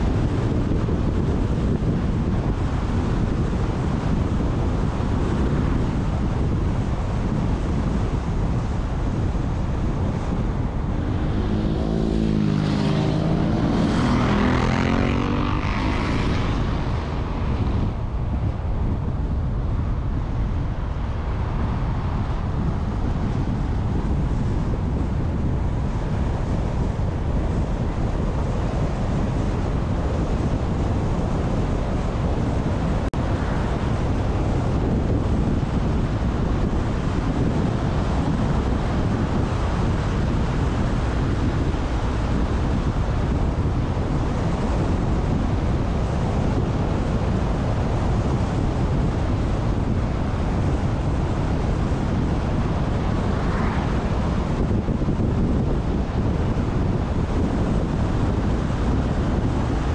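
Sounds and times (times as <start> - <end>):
car road and wind noise: 0.0 - 59.9
wind buffeting microphone: 0.0 - 59.9.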